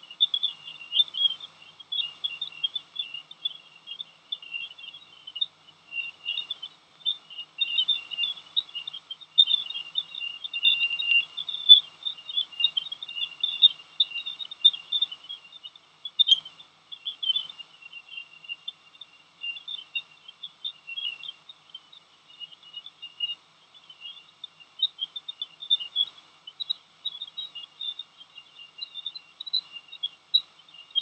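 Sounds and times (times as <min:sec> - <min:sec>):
rapid high-pitched chirping: 0:00.0 - 0:31.0.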